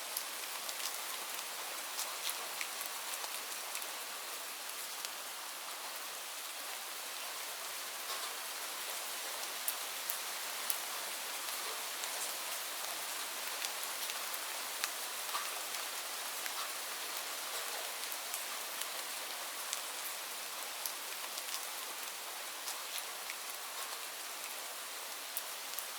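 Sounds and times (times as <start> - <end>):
raindrops ticking on surfaces: 0.1 - 25.9.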